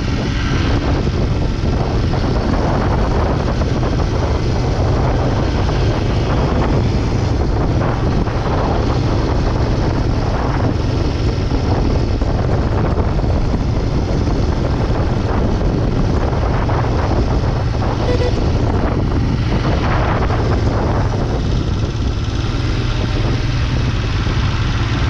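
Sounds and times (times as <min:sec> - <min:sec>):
road noise: 0:00.0 - 0:25.0
vehicle engine droning: 0:00.0 - 0:25.0
wind noise: 0:00.0 - 0:25.0.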